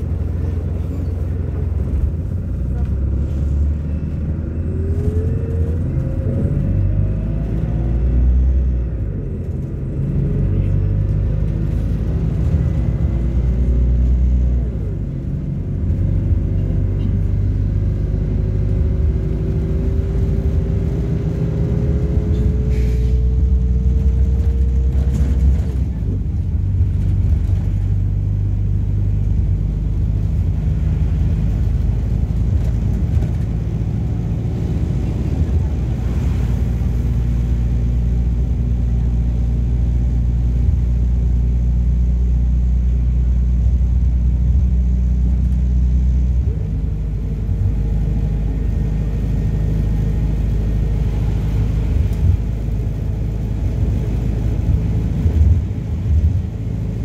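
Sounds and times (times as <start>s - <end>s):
diesel bus engine droning: 0.0s - 57.0s
road noise: 0.0s - 57.0s.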